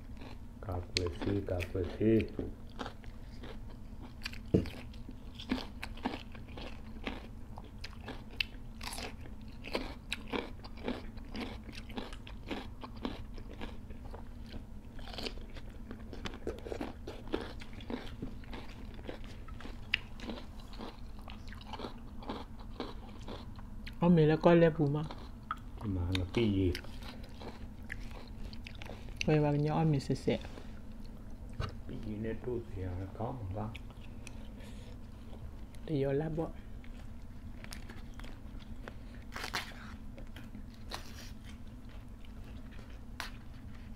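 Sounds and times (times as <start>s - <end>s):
chewing crisp cucumber: 0.0s - 24.0s, 24.7s - 29.8s, 33.4s - 35.9s, 36.8s - 43.9s.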